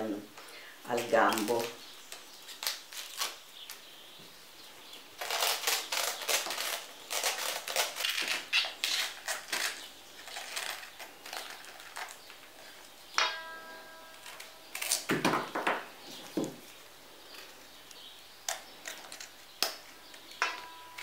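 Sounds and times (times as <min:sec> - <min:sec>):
artichoke leaves cracking and crunching: 0:00.9 - 0:03.9, 0:05.1 - 0:13.0, 0:14.1 - 0:21.0.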